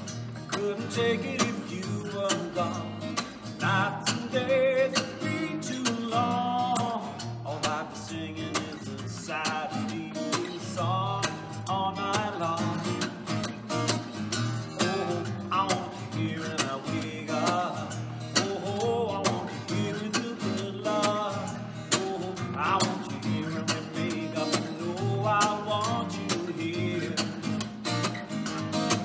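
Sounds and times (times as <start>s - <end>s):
strummed acoustic guitar: 0.0s - 29.0s
man singing: 0.4s - 13.3s, 14.6s - 27.8s.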